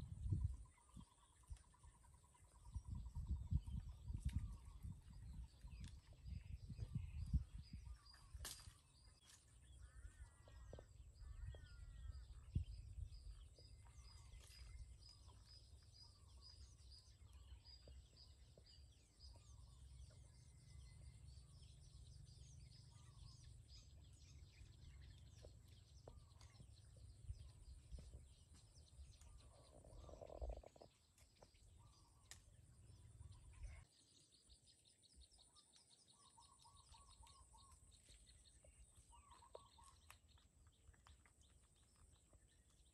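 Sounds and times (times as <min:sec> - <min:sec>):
bird chirps: 0:00.0 - 0:42.9.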